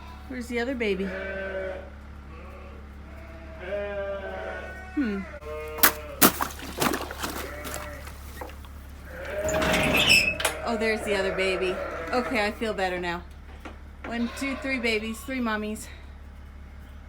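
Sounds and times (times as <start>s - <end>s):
sheep bleating: 0.0s - 6.2s, 7.2s - 13.2s, 14.0s - 15.8s.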